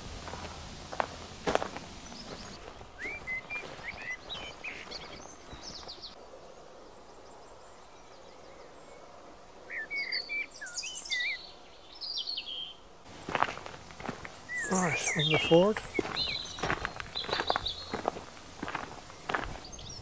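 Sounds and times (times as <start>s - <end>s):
faint outdoor hiss: 0.0s - 20.0s
songbird chirps and trills: 1.6s - 20.0s.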